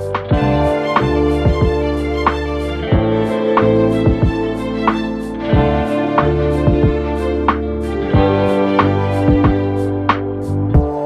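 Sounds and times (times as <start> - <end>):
held chords: 0.0 - 11.0
steady drum beat: 0.0 - 11.0.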